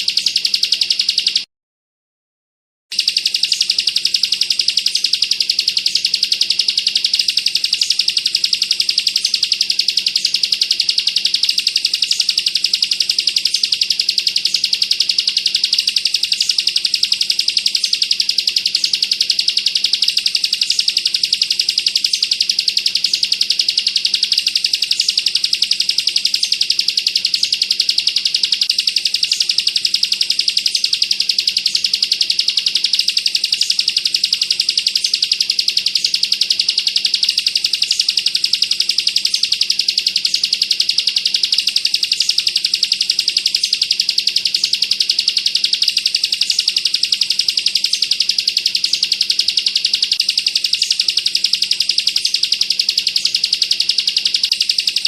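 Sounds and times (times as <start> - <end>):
bird singing rapid trill: 0.0 - 1.5, 2.9 - 55.0.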